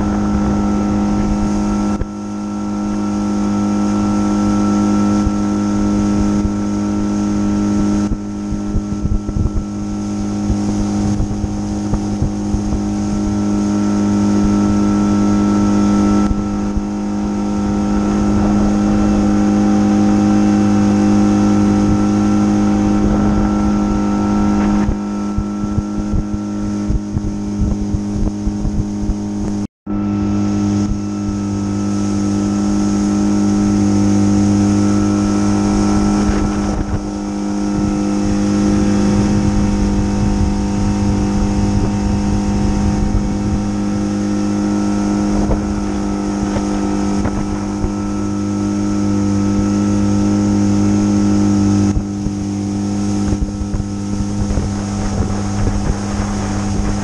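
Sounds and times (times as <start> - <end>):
boat motor running: 0.0 - 57.0
wind buffeting microphone: 0.0 - 57.0.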